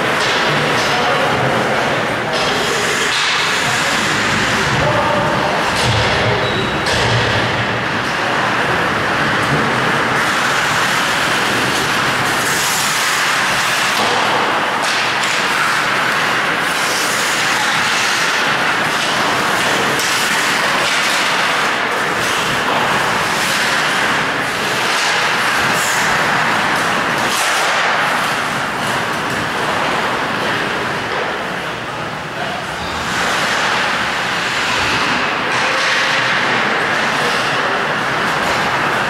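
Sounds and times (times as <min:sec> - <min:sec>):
loud rink noise: 0:00.0 - 0:39.0
skate blades scraping ice: 0:01.7 - 0:05.8, 0:08.0 - 0:31.6, 0:32.8 - 0:39.0.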